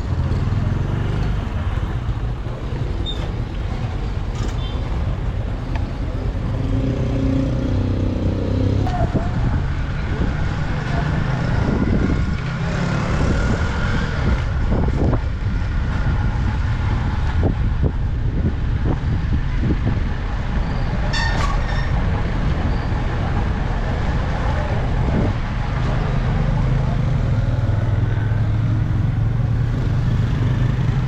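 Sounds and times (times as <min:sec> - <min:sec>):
motorcycle engine and road noise: 0:00.0 - 0:31.0.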